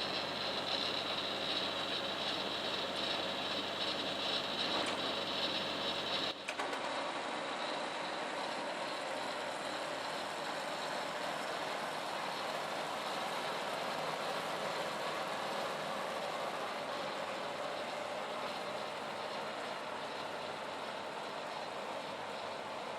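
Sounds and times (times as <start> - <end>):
tractor and snowblower engines running: 0.0 - 22.9.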